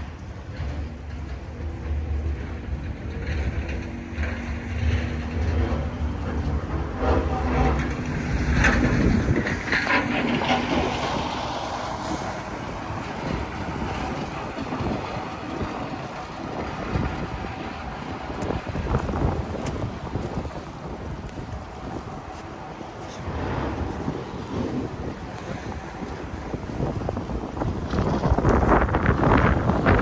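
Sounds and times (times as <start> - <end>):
heavy vehicle engine droning: 0.0 - 30.0
street noise: 0.0 - 30.0
wind noise: 0.0 - 30.0.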